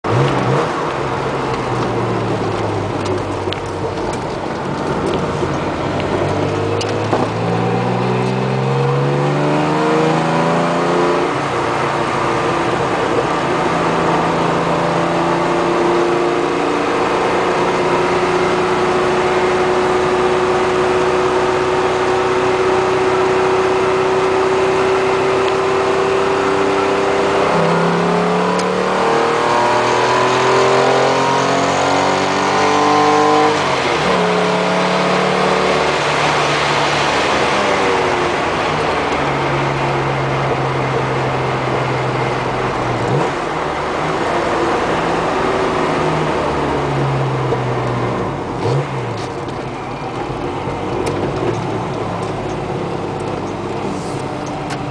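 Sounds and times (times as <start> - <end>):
car engine revving through gears: 0.0 - 54.9.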